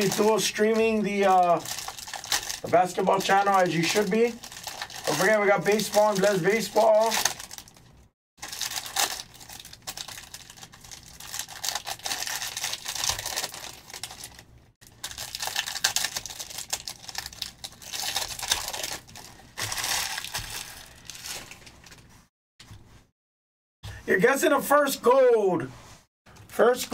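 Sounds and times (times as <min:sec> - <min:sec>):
card pack wrappers crinkling and tearing: 0:00.0 - 0:22.2.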